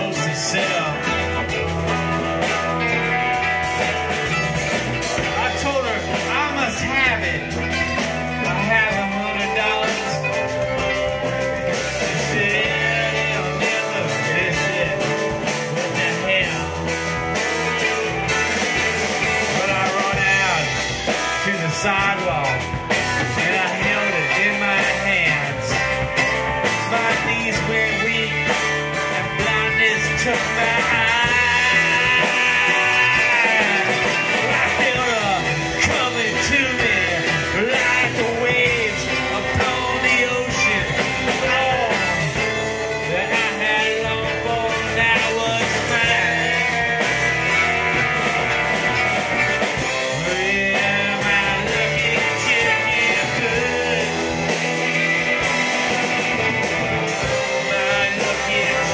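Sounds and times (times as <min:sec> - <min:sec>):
drum kit: 0:00.0 - 0:58.9
electric bass: 0:00.0 - 0:58.9
electric guitars: 0:00.0 - 0:58.9
man singing: 0:00.0 - 0:58.9.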